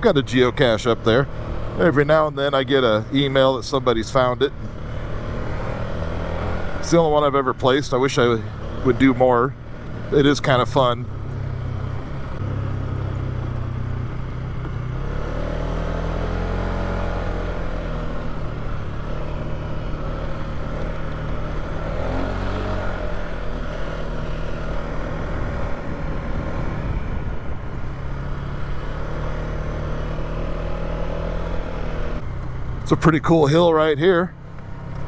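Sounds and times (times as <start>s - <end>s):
atv engine running: 0.0s - 35.0s.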